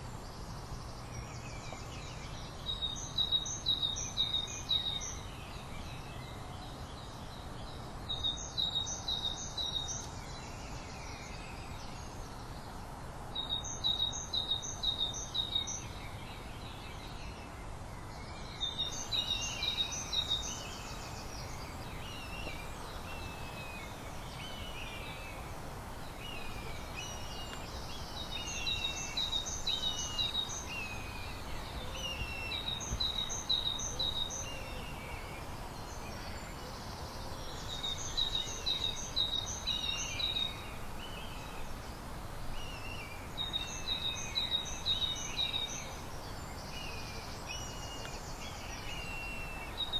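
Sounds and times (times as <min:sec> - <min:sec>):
steady background hiss: 0:00.0 - 0:49.9.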